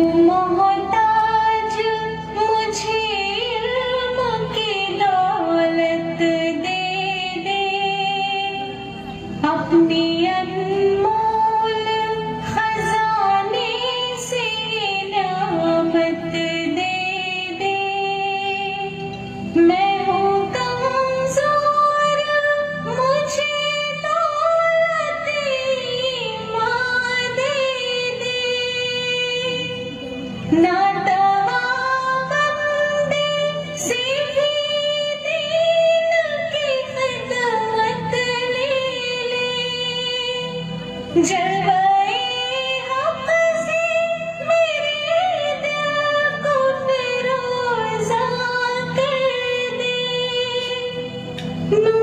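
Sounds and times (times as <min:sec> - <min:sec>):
soft rhythmic accompaniment: 0:00.0 - 0:52.0
woman singing slow song: 0:00.0 - 0:52.0.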